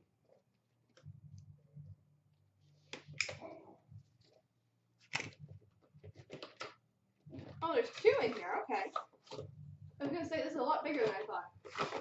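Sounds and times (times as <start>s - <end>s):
faint low hum: 0.0s - 11.8s.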